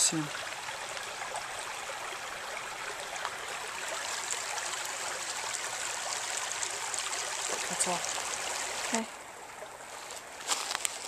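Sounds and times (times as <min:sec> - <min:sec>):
stream trickling over stones: 0:00.0 - 0:11.0.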